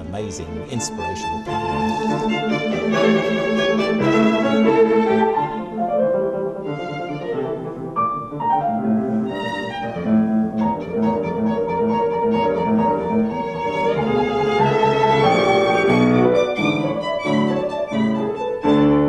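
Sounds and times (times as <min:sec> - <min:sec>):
violin playing classical piece: 0:00.0 - 0:19.0.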